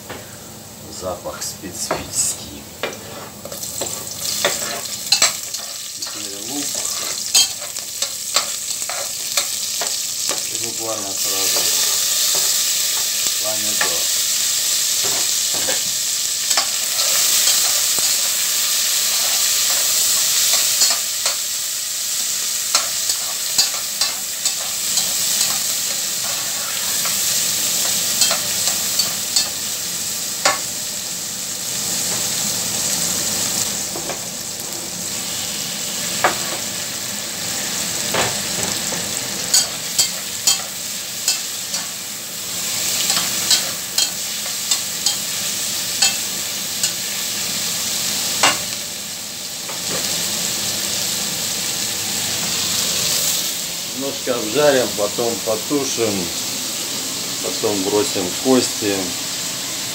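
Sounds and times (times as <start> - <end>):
garlic and tomato sizzling in oil: 0.3 - 59.9.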